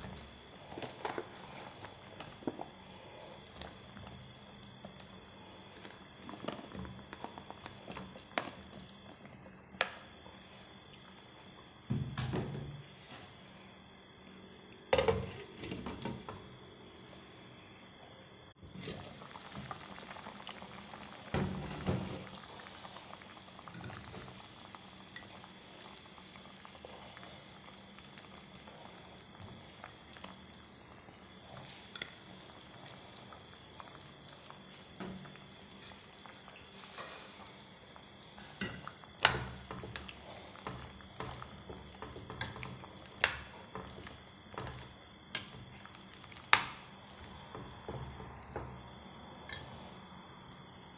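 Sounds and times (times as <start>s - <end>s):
soup bubbling in a pot: 0.0s - 16.8s, 17.8s - 50.9s.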